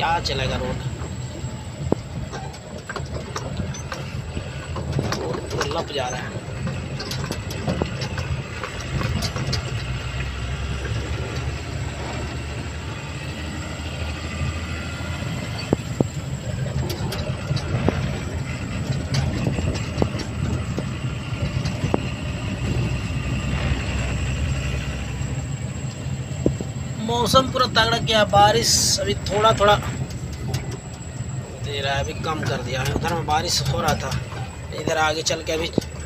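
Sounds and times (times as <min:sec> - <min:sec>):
cab knocks and rattles: 0:00.0 - 0:36.0
truck engine drone: 0:00.0 - 0:36.0.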